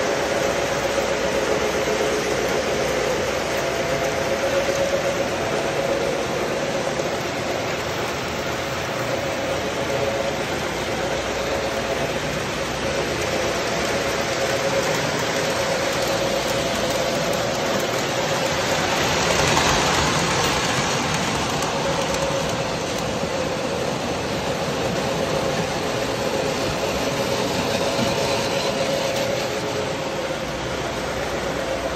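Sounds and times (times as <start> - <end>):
model trains running on track: 0.0 - 31.9.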